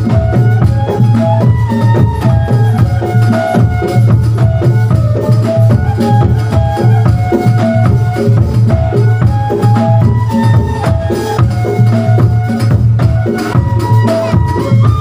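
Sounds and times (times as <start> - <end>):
driving drum beat: 0.0 - 15.0
shaken and struck percussion: 0.0 - 15.0.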